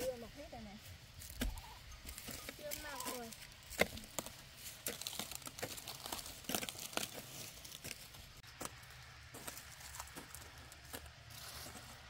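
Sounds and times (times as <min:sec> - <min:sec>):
cabbage leaves crackling: 0:00.0 - 0:12.0.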